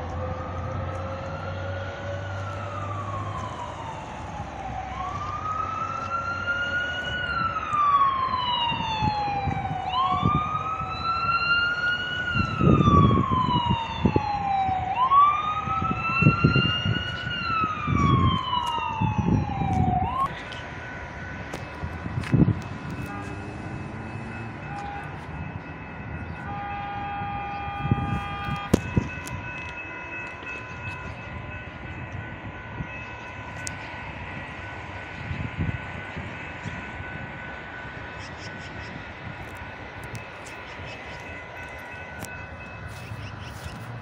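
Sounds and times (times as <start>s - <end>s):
emergency siren wailing: 0.0s - 44.0s.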